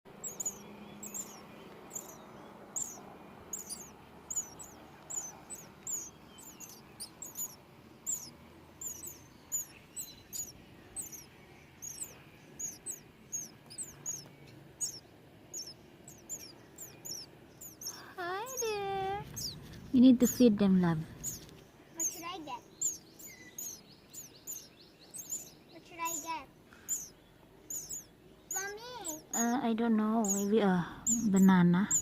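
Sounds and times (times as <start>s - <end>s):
baby birds chirping: 0.1s - 32.0s.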